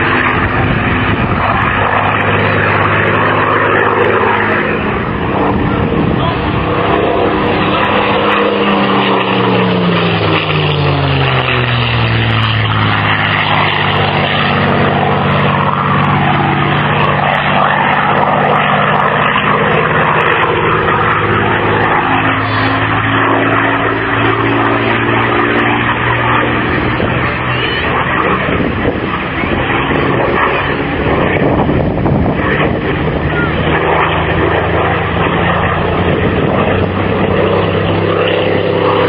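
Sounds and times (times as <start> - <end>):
propeller plane engine passing: 0.0 - 39.0.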